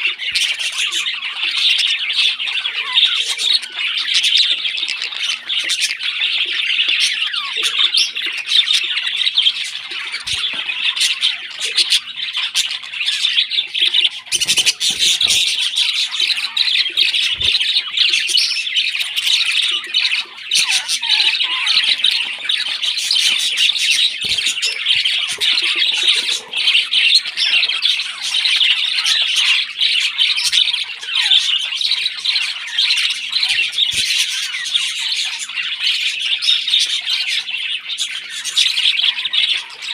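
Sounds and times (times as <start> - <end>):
parrot chicks squawking: 0.0 - 39.9.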